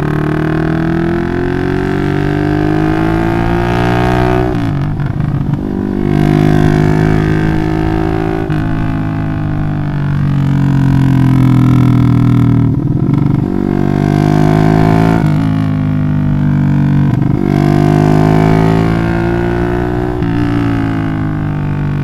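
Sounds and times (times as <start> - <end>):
motorcycle engine through racing exhaust: 0.0 - 22.0.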